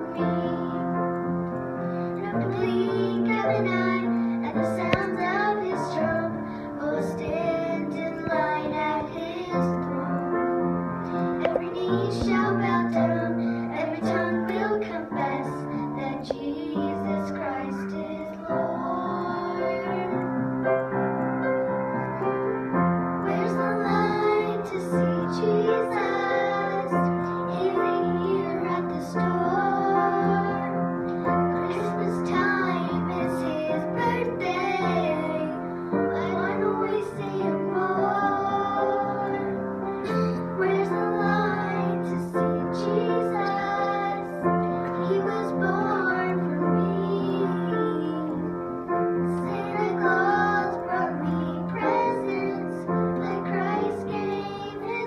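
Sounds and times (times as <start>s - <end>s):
girls singing a duet: 0.0s - 21.2s, 23.2s - 55.0s
instrumental accompaniment with piano: 0.0s - 55.0s.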